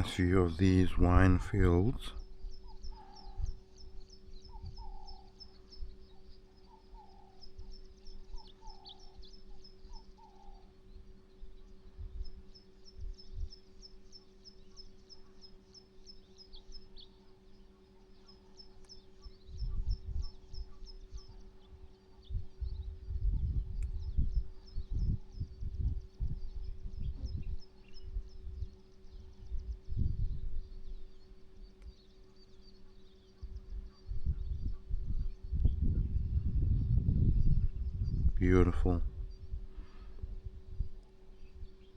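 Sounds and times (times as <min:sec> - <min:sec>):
wind rumbling on microphone: 0:00.0 - 0:06.4, 0:07.0 - 0:13.7, 0:19.3 - 0:32.0, 0:33.4 - 0:41.9
birds chirping: 0:00.0 - 0:41.9
low falling bird calls: 0:00.0 - 0:41.9
low hum: 0:00.0 - 0:41.9.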